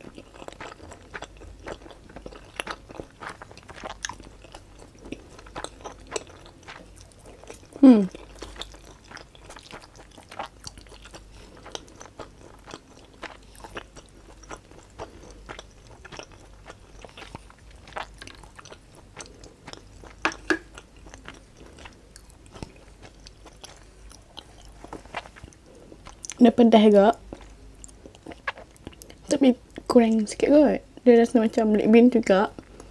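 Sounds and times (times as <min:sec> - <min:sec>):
person chewing noodles: 0:00.0 - 0:26.4, 0:27.1 - 0:29.9.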